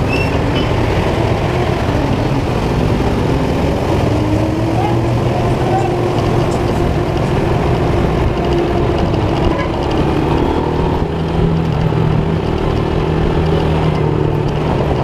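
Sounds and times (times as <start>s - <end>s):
motorcycle engine hum: 0.0s - 15.0s
road noise: 0.0s - 15.0s.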